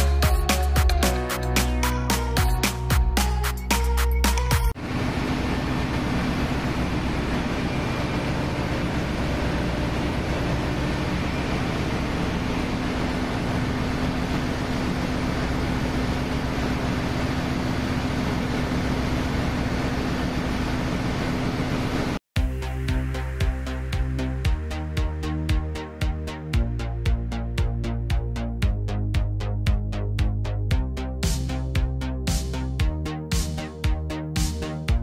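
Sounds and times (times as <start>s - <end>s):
engine-room machinery drone: 3.2s - 35.0s.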